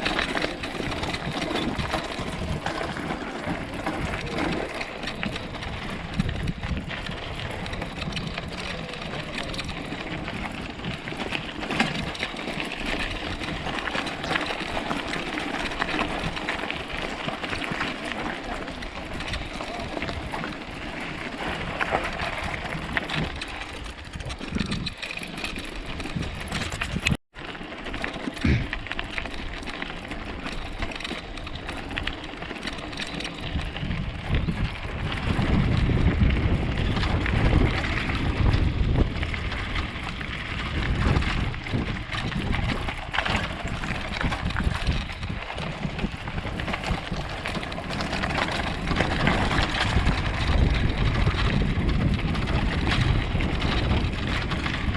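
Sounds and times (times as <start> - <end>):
wind noise on microphone: 0.0 - 27.2, 28.4 - 54.9.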